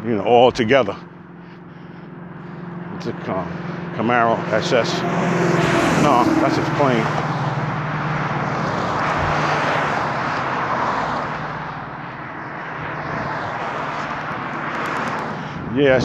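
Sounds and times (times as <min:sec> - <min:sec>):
airplane drone: 0:00.0 - 0:16.0
car tyre noise: 0:00.1 - 0:16.0.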